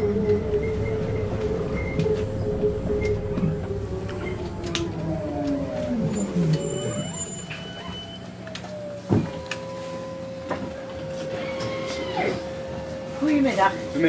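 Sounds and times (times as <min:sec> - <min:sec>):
electric bus motor whining: 0:00.0 - 0:14.0.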